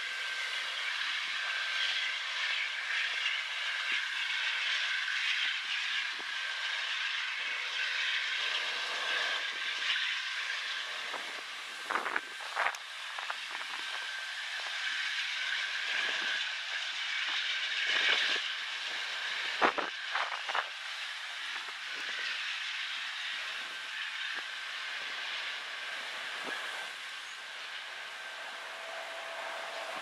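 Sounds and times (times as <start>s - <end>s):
freight train wheels hissing on rail: 0.0s - 30.0s.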